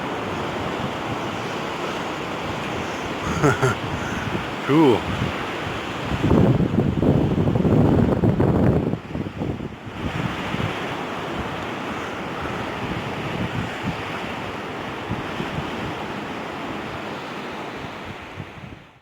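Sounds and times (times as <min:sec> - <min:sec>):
wind buffeting microphone: 0:00.0 - 0:16.2, 0:17.8 - 0:19.0
surf washing on a beach: 0:00.0 - 0:19.0.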